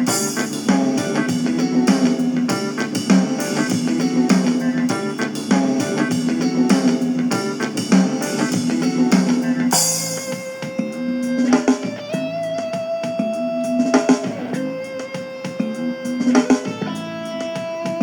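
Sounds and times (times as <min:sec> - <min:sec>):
guitar-led music with drums: 0:00.0 - 0:18.0.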